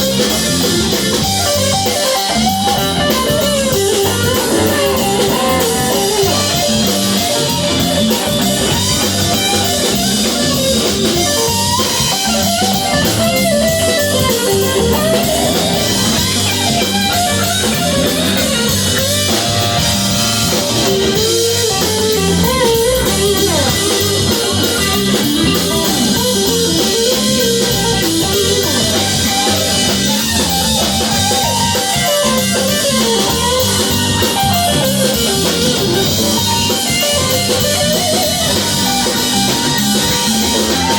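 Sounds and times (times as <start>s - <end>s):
bass guitar: 0.0s - 40.9s
drum kit: 0.0s - 40.9s
guitars playing: 0.0s - 40.9s.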